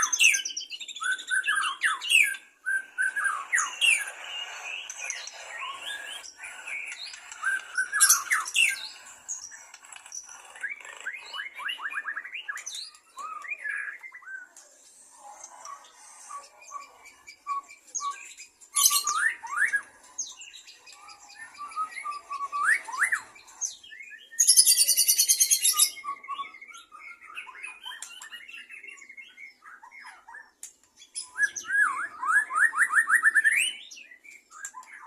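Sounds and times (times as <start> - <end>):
rapid high bird trill: 0.0 - 28.8
birds chirping and whistling: 0.0 - 35.0.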